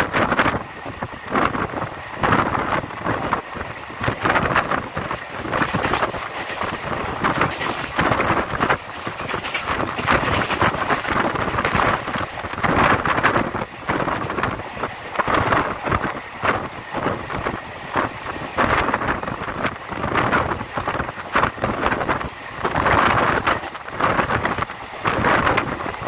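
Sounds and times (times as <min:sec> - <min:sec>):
train wheels on rails: 0:00.0 - 0:26.0
wind buffeting microphone: 0:00.0 - 0:26.0.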